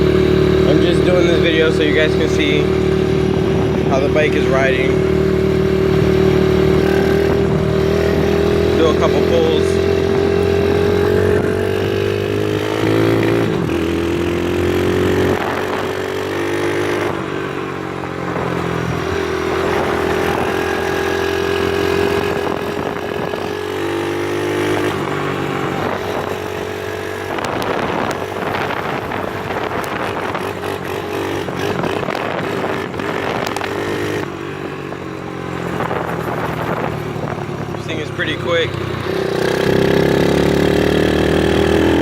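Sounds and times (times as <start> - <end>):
small motorcycle engine revving through gears: 0.0 - 42.0.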